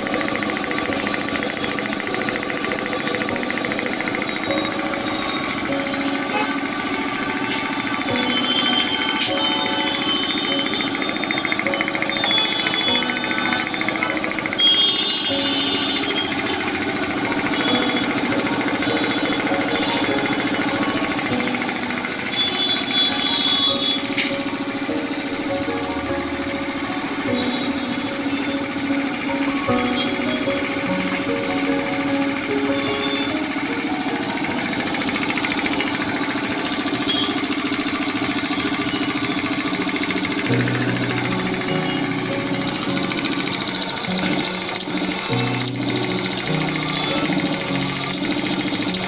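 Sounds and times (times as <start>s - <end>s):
air compressor pump chattering: 0.0s - 49.0s.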